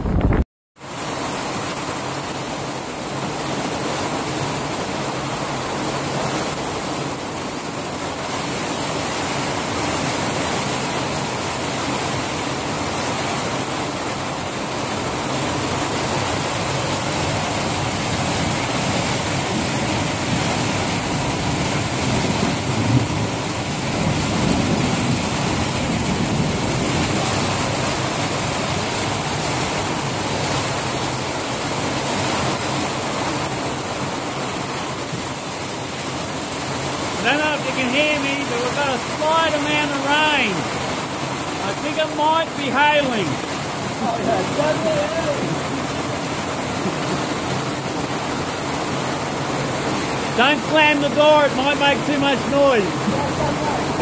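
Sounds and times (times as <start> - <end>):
heavy rain and hail: 0.0 - 54.0.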